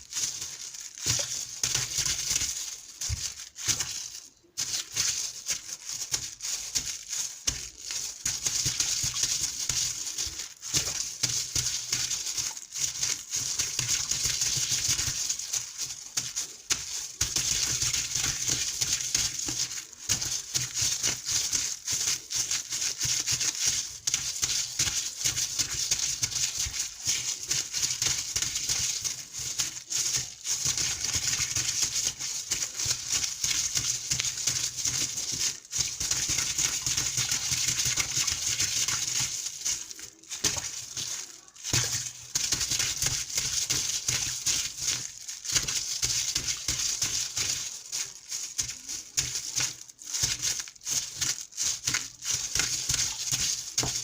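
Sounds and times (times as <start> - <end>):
water running and splashing: 0.0 - 54.0.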